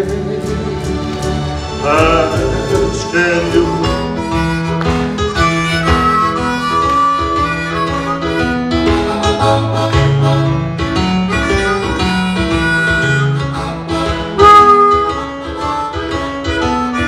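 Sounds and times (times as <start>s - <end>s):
accompaniment with bass line: 0.0s - 17.0s
harmonica melody: 0.4s - 17.0s.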